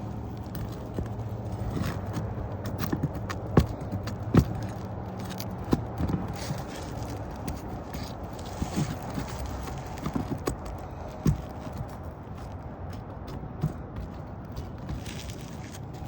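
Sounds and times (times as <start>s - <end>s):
roofing tool scraping shingles: 0.0s - 12.7s, 13.3s - 16.0s
steady low hum: 0.0s - 16.0s.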